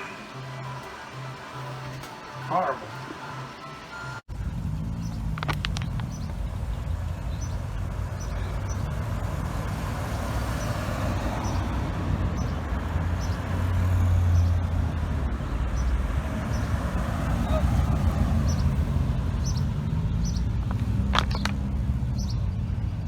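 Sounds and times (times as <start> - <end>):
engine rumbling: 0.0 - 23.0.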